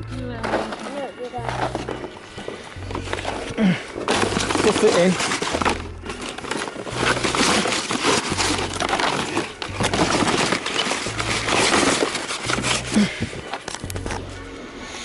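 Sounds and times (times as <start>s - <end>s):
cardboard crackling and crinkling: 0.0s - 14.4s.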